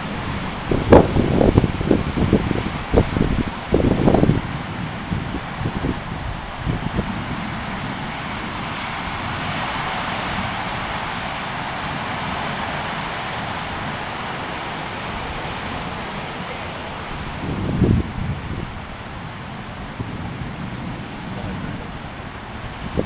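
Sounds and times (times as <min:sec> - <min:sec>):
gusts buffeting microphone: 0:00.0 - 0:23.0
heavy rain: 0:00.0 - 0:23.0
storm wind: 0:00.0 - 0:23.0.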